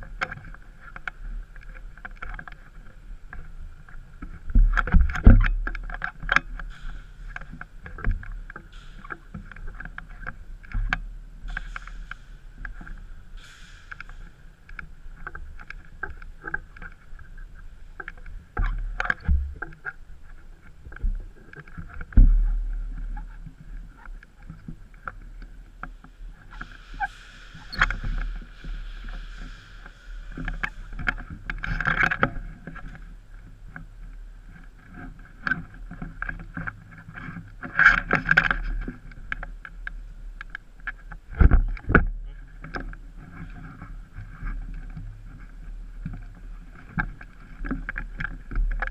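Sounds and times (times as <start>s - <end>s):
gear clicks and rustling: 0.0s - 48.9s.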